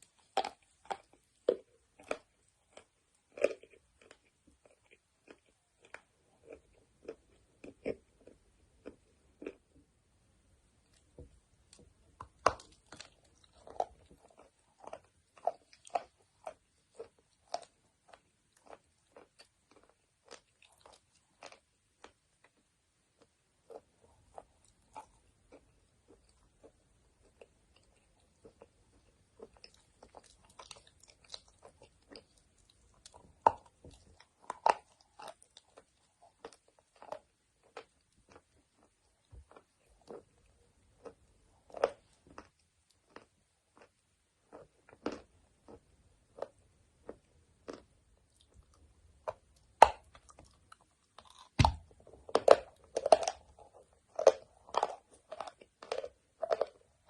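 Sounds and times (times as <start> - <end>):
crunching and chewing chalk: 0.0 - 9.9, 10.7 - 57.0.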